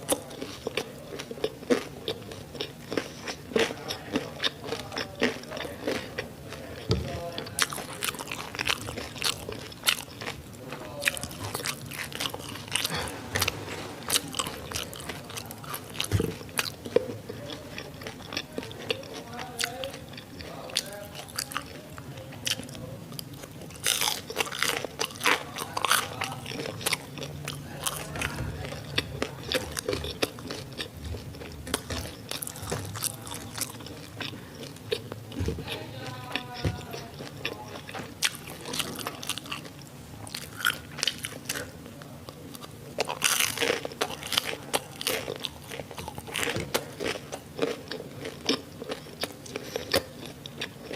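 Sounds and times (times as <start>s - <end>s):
crunching crispy food: 0.0s - 50.9s
wet chewing: 0.0s - 50.9s.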